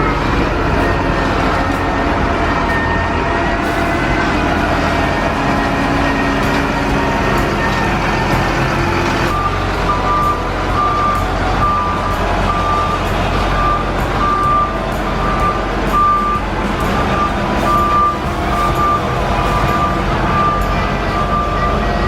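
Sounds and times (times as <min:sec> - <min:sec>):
heavy machine engine running: 0:00.0 - 0:22.0
reversing alarm beeping: 0:00.0 - 0:22.0.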